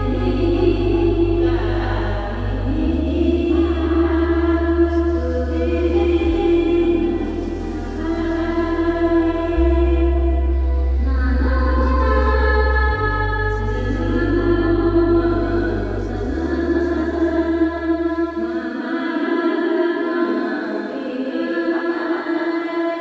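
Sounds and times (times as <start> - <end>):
low bass notes: 0.0 - 18.6
choir-like voices holding chords: 0.0 - 23.0.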